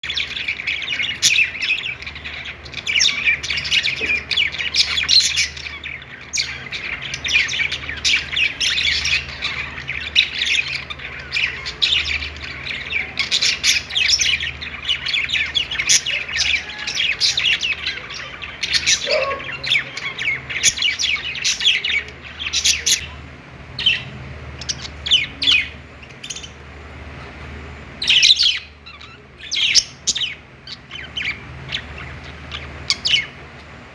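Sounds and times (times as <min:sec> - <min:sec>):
faint low hum: 0:00.0 - 0:33.9
parakeets chirping and squawking: 0:00.0 - 0:33.9.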